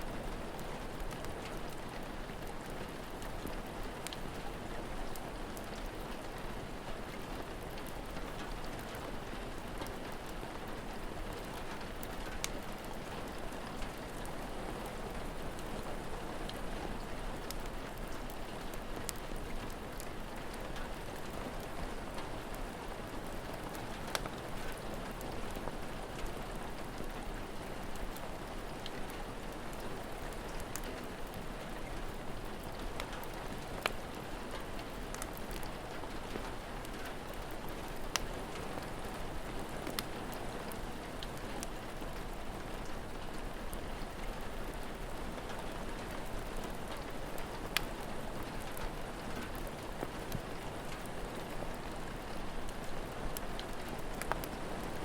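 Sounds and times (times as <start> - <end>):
steady rain falling: 0.0 - 55.0
wood fire crackling: 0.2 - 55.0.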